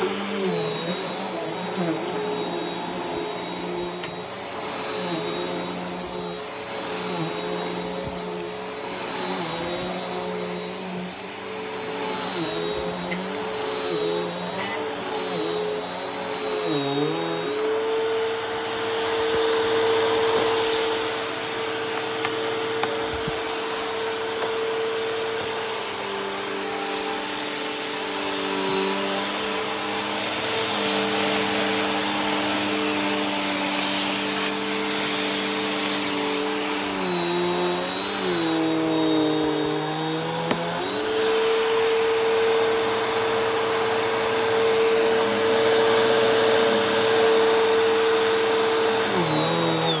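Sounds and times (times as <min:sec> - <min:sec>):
vacuum cleaner motor whine: 0:00.0 - 0:50.0.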